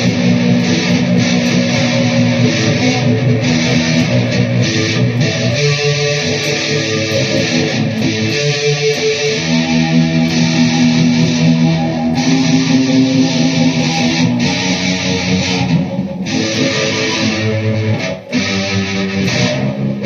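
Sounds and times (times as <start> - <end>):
electric guitar sustained chords: 0.0 - 20.0.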